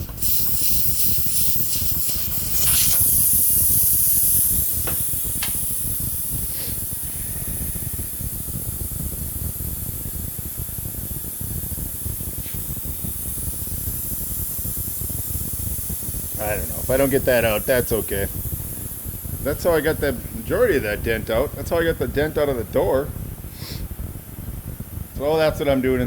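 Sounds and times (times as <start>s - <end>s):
compressed air hissing: 0.0s - 26.0s.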